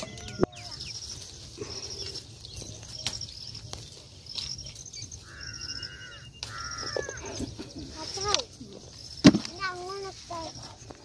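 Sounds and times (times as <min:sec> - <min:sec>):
high-pitched chirping: 0:00.0 - 0:11.0.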